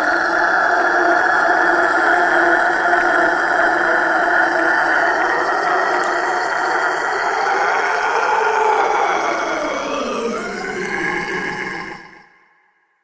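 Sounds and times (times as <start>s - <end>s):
man's rasping scream: 0.0s - 10.8s.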